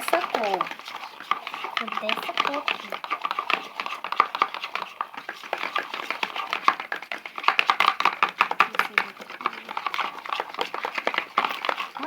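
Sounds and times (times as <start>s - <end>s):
utensil tapping container sides: 0.0s - 12.0s.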